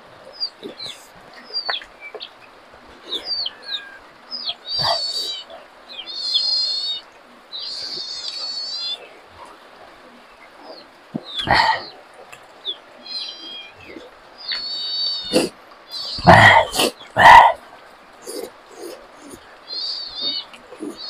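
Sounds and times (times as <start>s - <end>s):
birds chirping: 0.0s - 21.0s
high even-pitched bird calls: 0.3s - 21.0s.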